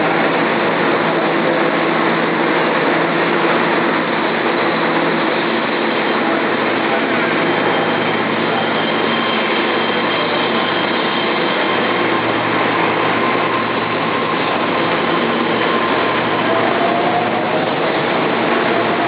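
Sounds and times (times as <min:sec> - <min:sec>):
electric train running: 0:00.0 - 0:19.0.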